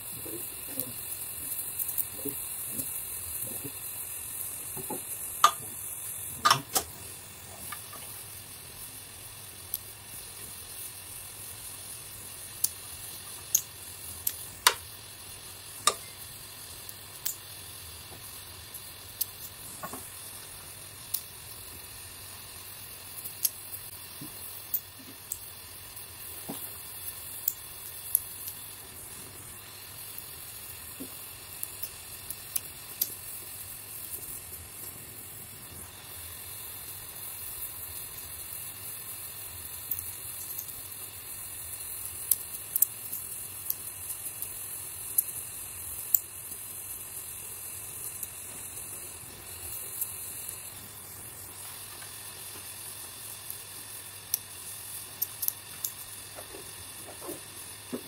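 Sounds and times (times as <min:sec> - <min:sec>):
gas torch flame hissing: 0:00.0 - 0:58.0
sharp crackles and pops: 0:00.0 - 0:58.0.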